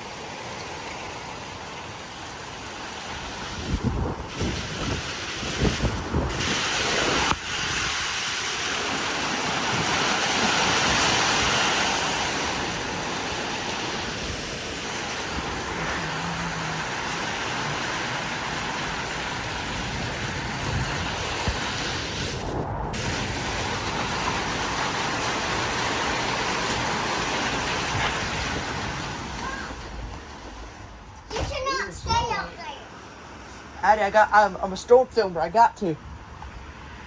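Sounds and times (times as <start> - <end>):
heavy rain pouring: 0.0 - 35.3
wind gusts buffeting microphone: 0.6 - 33.2.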